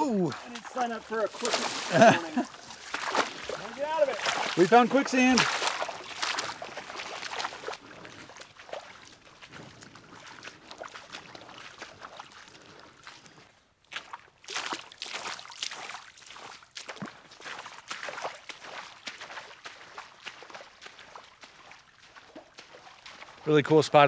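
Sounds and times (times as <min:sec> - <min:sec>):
footsteps splashing through creek: 0:00.0 - 0:24.0.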